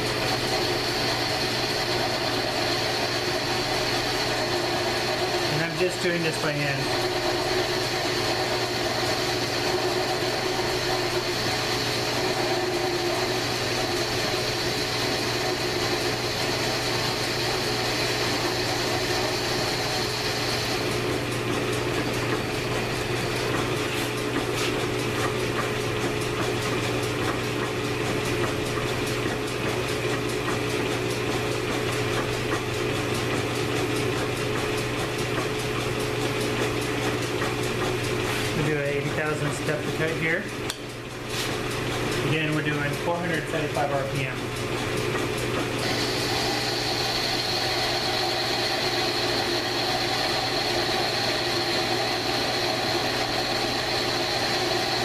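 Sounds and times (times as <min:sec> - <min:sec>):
lathe humming: 0:00.0 - 0:55.0.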